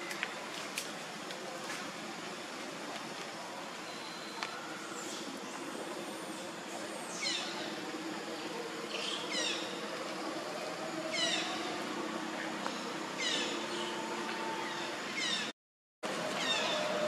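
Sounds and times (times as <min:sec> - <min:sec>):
steady background hum: 0:00.0 - 0:15.5.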